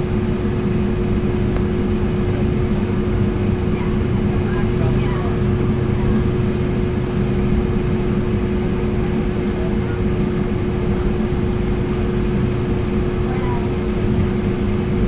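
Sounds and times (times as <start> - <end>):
airliner cabin engine roar: 0.0 - 15.0
constant hum: 0.0 - 15.0.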